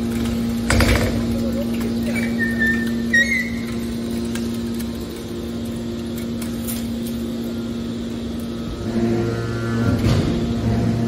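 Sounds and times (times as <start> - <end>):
hydraulic baler machine hum: 0.0 - 11.0.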